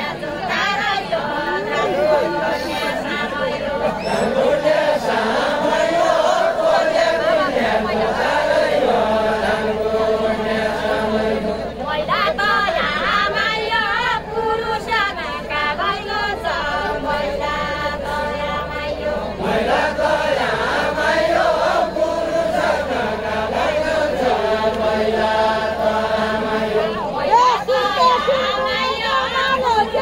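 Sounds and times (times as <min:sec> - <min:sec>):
group of voices chanting: 0:00.0 - 0:30.0.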